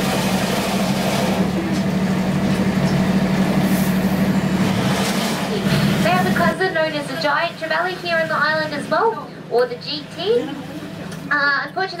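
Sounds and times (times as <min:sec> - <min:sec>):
boat engine drone: 0:00.0 - 0:11.4.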